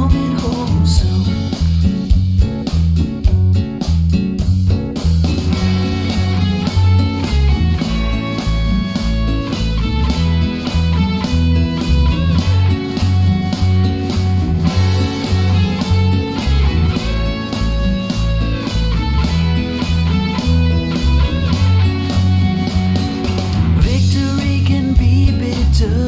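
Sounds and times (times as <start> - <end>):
guitar-led song with drums: 0.0 - 26.0.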